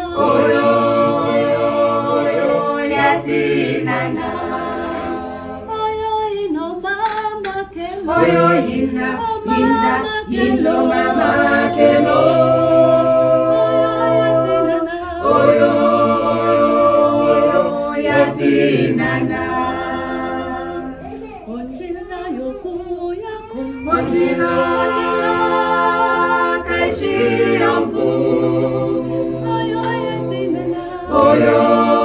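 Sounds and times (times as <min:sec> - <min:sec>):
voices singing a cappella: 0:00.0 - 0:32.0.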